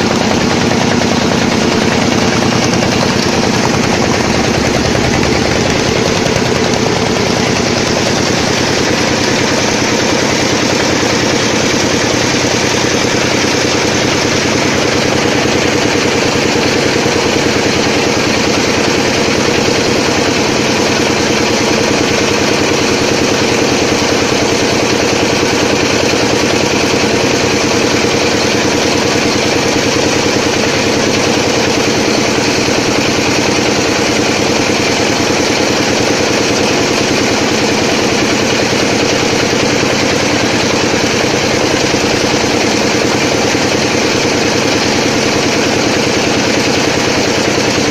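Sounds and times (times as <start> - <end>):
small boat engine running: 0.0 - 47.9.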